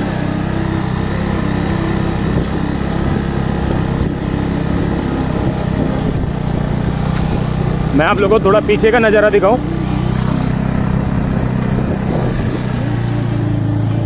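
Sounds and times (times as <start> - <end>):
motorcycle engine under load: 0.0 - 14.0.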